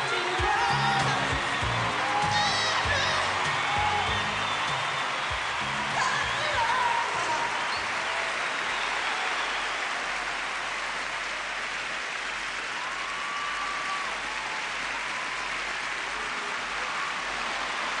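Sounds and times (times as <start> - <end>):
large audience applauding: 0.0 - 18.0.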